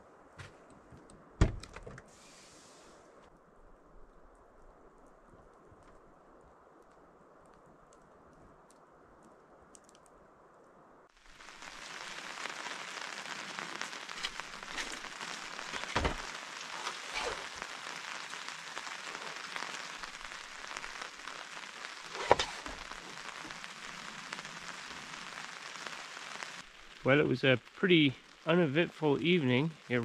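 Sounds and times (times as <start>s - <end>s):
faint low hiss: 0.0s - 30.0s
rain pattering on a tarp: 3.8s - 30.0s.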